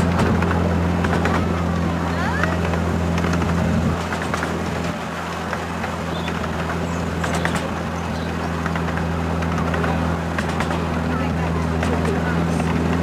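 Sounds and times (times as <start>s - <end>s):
miniature locomotive engine drone: 0.0s - 13.0s
train clicks and rattles: 0.0s - 13.0s.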